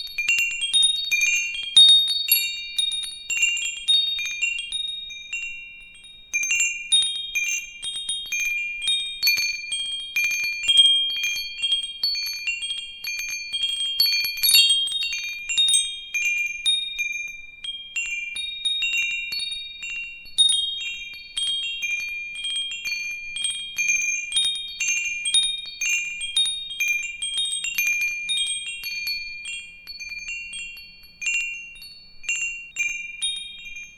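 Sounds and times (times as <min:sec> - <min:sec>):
wind chimes ringing: 0:00.0 - 0:33.9.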